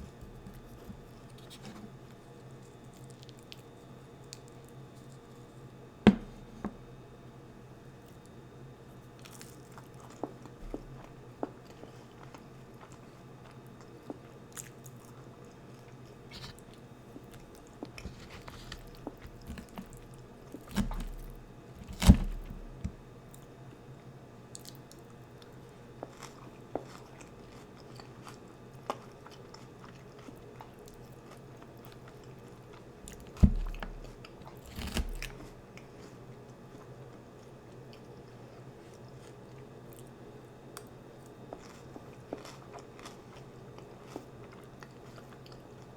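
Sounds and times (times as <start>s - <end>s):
food being chewed: 0.0s - 5.6s, 9.2s - 23.5s, 24.5s - 45.9s.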